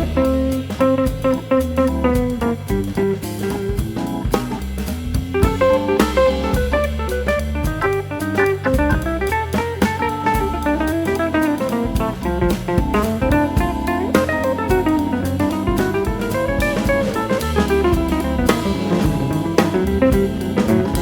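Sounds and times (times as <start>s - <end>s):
drum kit beat: 0.0s - 21.0s.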